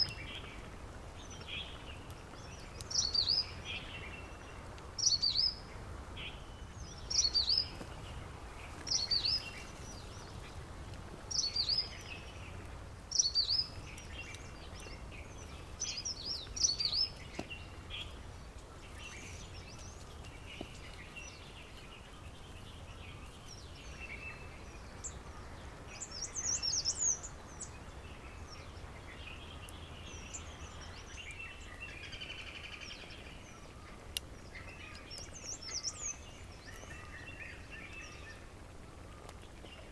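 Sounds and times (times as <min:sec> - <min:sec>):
low outdoor background hiss: 0:00.0 - 0:39.9.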